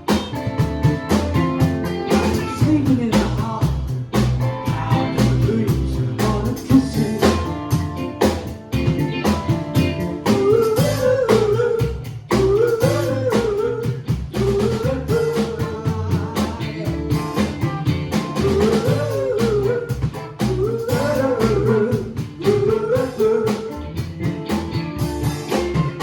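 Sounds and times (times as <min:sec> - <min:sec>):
live band with drums and bass: 0:00.0 - 0:26.0
person singing lead vocal: 0:01.8 - 0:08.4, 0:09.8 - 0:26.0.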